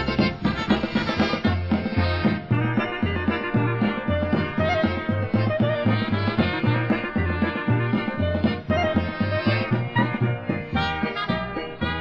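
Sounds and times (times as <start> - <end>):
polka band playing: 0.0 - 12.0.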